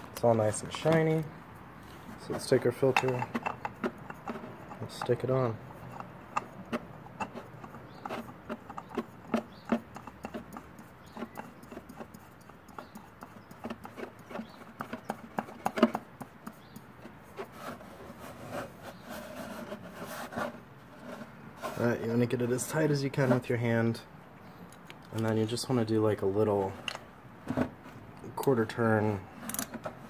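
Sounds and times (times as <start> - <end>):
oil filter clicks and scrapes: 0.0 - 23.6, 26.6 - 30.0.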